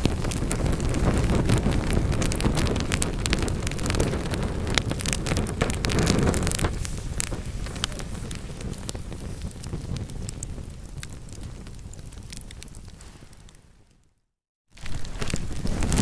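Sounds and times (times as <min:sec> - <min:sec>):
logs crackling and popping: 0:00.0 - 0:14.0, 0:14.7 - 0:16.0
low rumble of flame: 0:00.0 - 0:14.1, 0:14.8 - 0:16.0.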